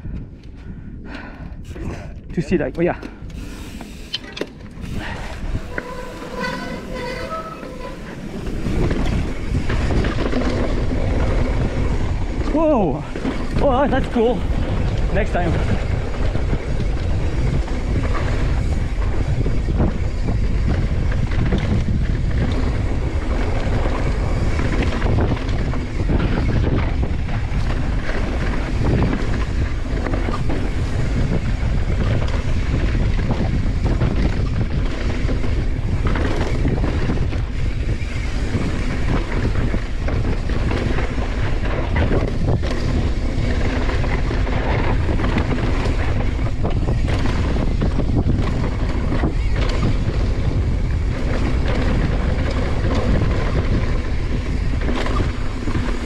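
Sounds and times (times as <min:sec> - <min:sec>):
wind rushing over microphone: 0:00.0 - 0:56.0
bike rattling and knocking: 0:04.2 - 0:56.0.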